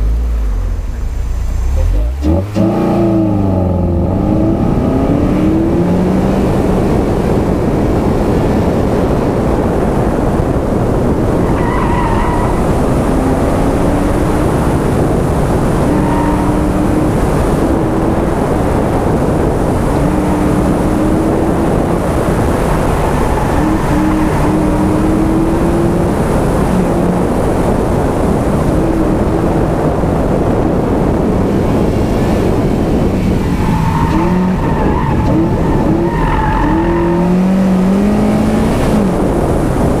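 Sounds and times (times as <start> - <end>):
dense rushing noise: 0.0 - 40.0
car engine revving hard: 1.6 - 40.0.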